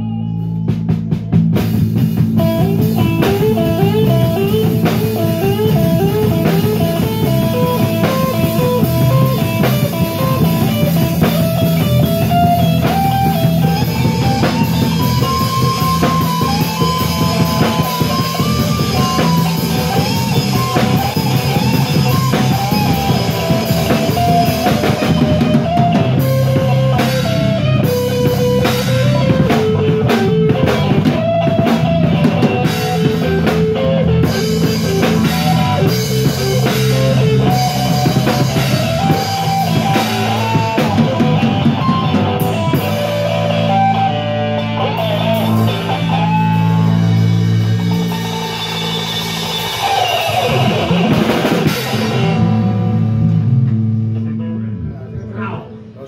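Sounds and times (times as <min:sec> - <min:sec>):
drum kit: 0:00.0 - 0:54.4
bass: 0:00.0 - 0:56.0
electric guitar: 0:00.0 - 0:56.0.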